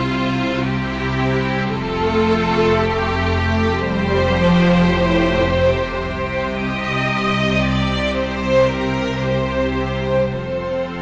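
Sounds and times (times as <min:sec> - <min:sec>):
slow sad music: 0:00.0 - 0:11.0.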